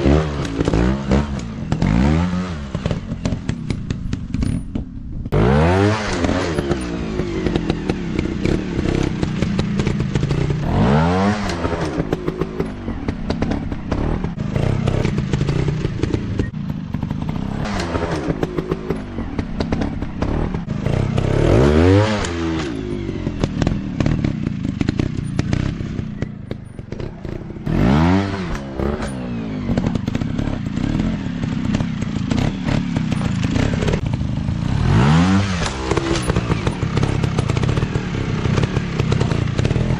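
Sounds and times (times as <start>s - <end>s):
dirt bike engine revving: 0.0s - 39.9s
knocks and clatter: 0.2s - 5.4s, 6.0s - 34.3s, 35.4s - 39.9s.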